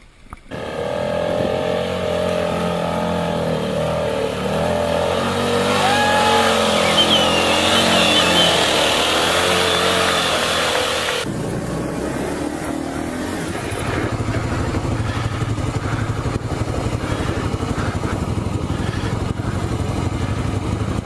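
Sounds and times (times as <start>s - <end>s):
motorcycle engine under load: 0.4s - 21.0s.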